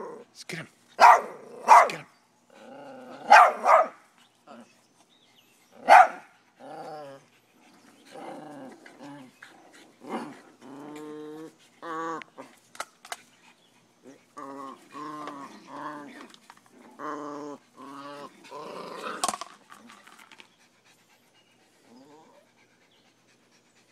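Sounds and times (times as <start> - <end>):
dogs growling: 1.1 - 3.8, 5.7 - 12.7, 13.4 - 23.9.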